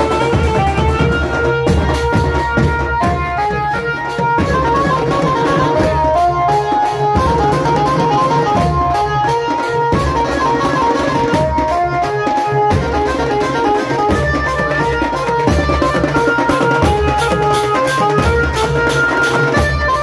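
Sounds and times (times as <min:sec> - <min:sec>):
electric banjo melody: 0:00.0 - 0:20.0
loud fast drumming: 0:00.0 - 0:20.0.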